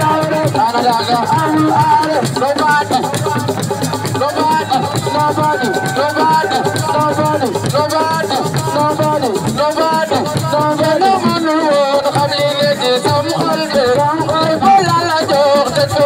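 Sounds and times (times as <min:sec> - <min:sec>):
percussion: 0:00.0 - 0:16.0
person singing: 0:00.0 - 0:16.0
rattling shakers: 0:00.0 - 0:16.0.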